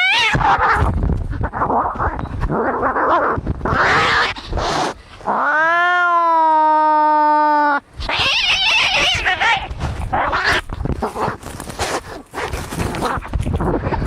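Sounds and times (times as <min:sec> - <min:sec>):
cats screeching and yowling: 0:00.0 - 0:11.8.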